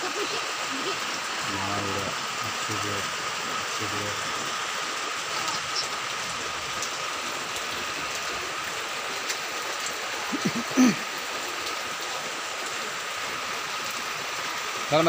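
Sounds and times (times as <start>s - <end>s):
heavy rain on plastic tarps: 0.0s - 15.0s.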